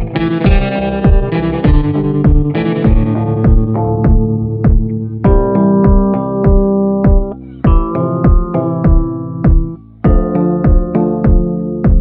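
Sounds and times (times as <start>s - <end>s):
electronic pop music: 0.0s - 12.0s.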